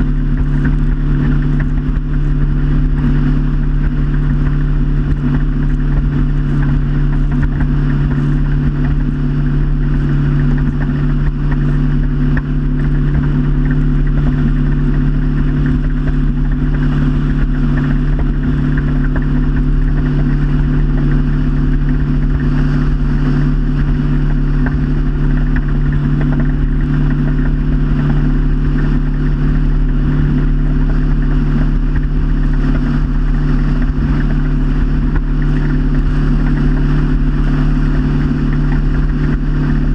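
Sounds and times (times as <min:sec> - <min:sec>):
motorboat engine drone: 0:00.0 - 0:39.9
rushing water noise: 0:00.0 - 0:39.9.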